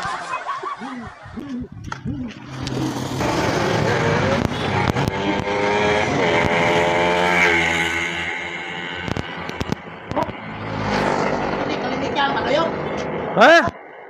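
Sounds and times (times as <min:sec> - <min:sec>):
traffic passing: 0:02.4 - 0:14.0.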